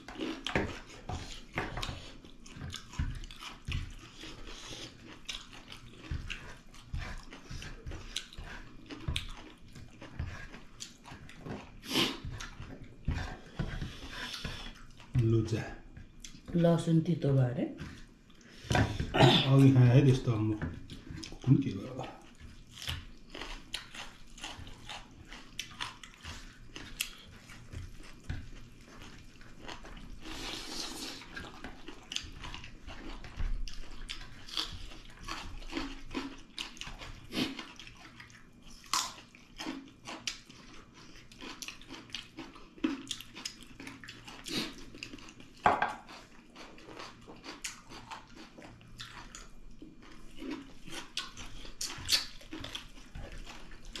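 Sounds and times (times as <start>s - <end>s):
wet chewing and lip smacking: 0.0s - 16.5s, 20.8s - 54.0s.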